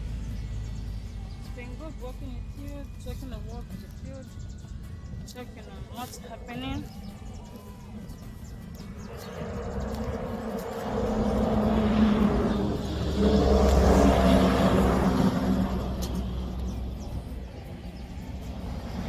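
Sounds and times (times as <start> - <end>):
heavy vehicles passing: 0.0 - 4.8, 7.2 - 19.0.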